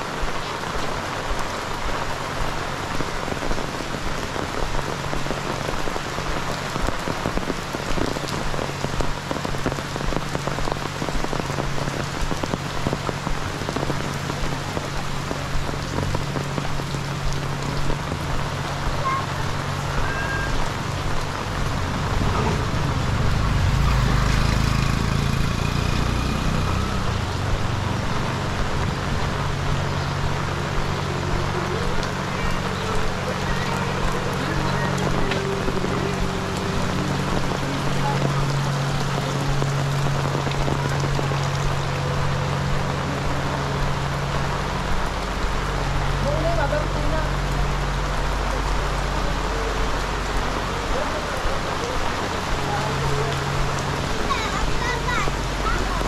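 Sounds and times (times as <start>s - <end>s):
heavy rain falling: 0.0s - 56.0s
low rumble: 7.3s - 56.0s.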